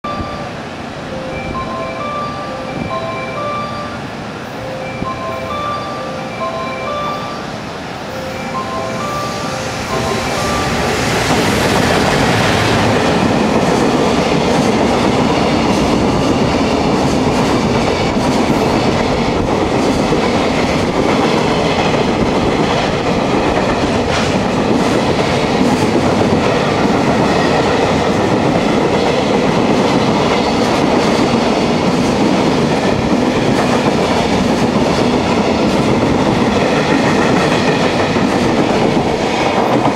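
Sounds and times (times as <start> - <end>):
freight train passing at speed: 0.0 - 39.9.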